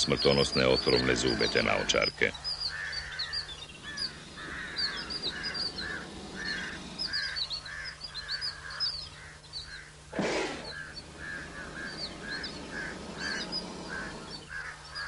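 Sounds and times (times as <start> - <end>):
birds chirping: 0.0 - 15.0
faint low hum: 0.0 - 15.0.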